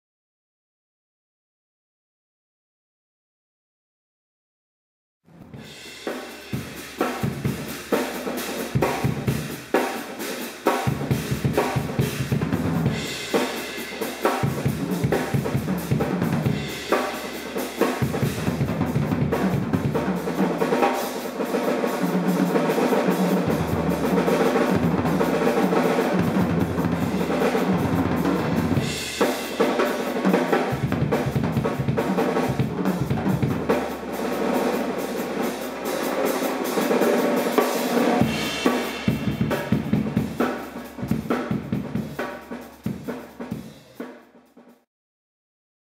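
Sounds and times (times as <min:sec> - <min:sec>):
acoustic drum kit playing: 0:05.4 - 0:44.8.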